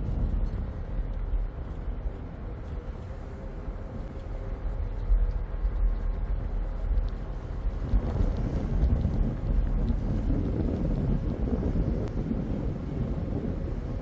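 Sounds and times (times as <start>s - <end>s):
ferry engine and water rumble: 0.0s - 14.0s
wind buffeting microphone: 0.0s - 14.0s.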